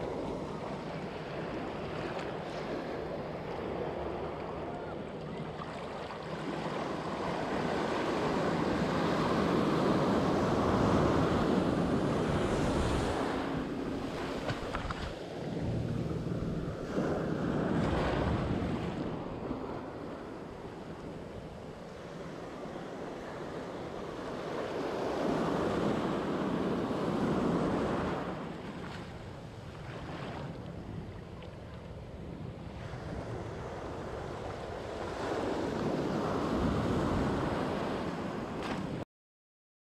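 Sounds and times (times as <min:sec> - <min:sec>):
sea waves washing: 0:00.0 - 0:39.0
wind buffeting microphone: 0:06.6 - 0:39.0.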